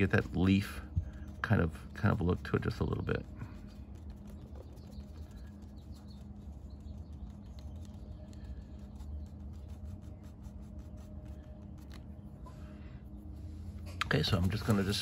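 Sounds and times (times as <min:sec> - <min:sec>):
brush dabbing on paper: 0:00.0 - 0:12.5, 0:13.2 - 0:15.0
low room hum: 0:00.0 - 0:15.0.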